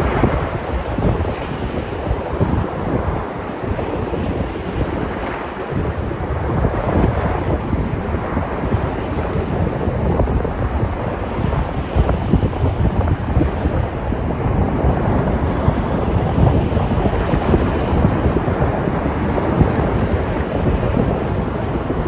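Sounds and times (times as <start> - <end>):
sea surf washing onto shore: 0.0 - 22.0
wind rumbling on microphone: 0.0 - 22.0.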